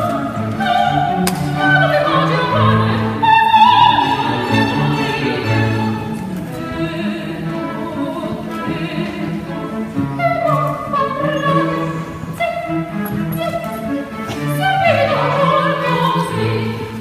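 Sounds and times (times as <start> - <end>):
operatic soprano singing: 0.0 - 17.0
string orchestra chords: 0.0 - 17.0.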